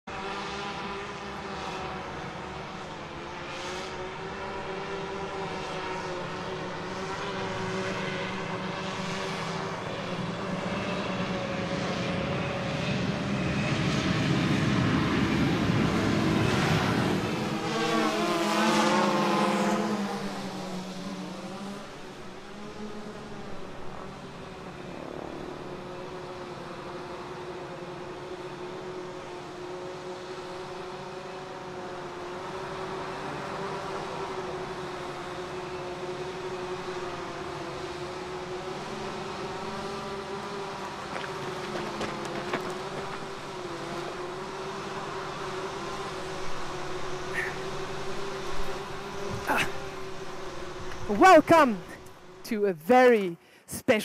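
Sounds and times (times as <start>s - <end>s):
vehicle engine running: 0.7s - 52.4s.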